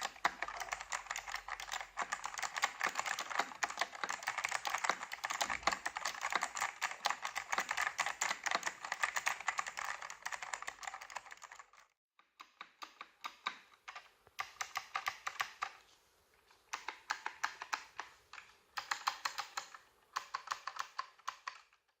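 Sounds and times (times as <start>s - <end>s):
mechanical keyboard typing: 0.0s - 15.8s, 16.7s - 22.0s.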